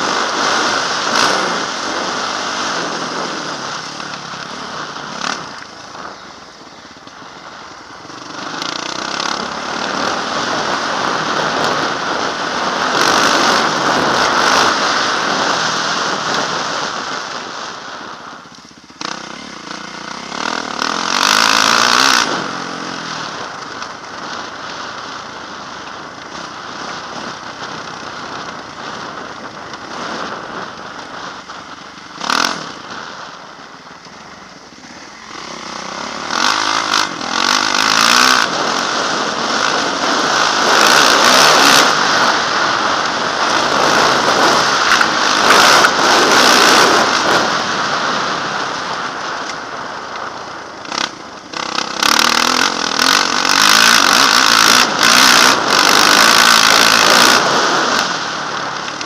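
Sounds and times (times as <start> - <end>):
wind on helmet camera: 0.0 - 20.9, 21.7 - 59.0
motocross bike engine: 0.0 - 59.0.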